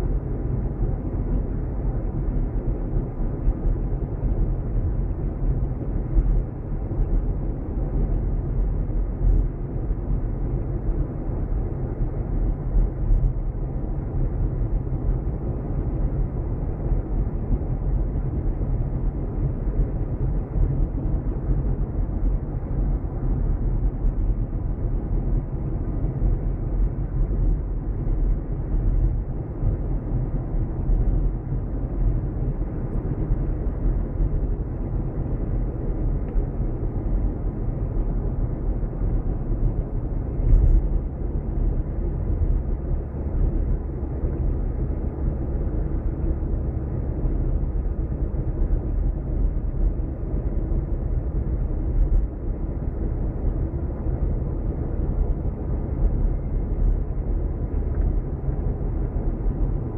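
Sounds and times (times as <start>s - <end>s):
car driving on paved road: 0.0s - 59.9s.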